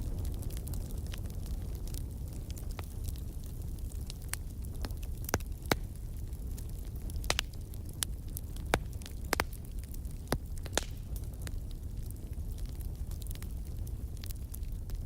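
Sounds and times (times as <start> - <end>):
fire crackling and popping: 0.0 - 15.0
flames rumbling: 0.0 - 15.0.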